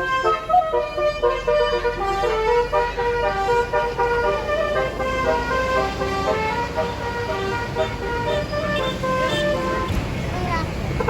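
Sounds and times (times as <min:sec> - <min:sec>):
multi-note bus horn melody: 0:00.0 - 0:10.0.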